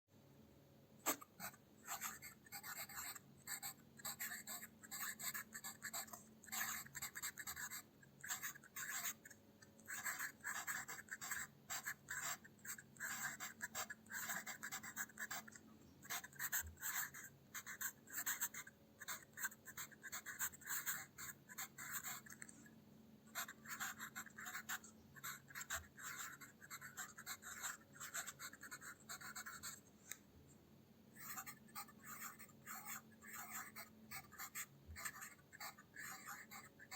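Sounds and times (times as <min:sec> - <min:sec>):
pencil scratching on paper: 0:01.1 - 0:22.7, 0:23.3 - 0:29.9, 0:31.2 - 0:36.9.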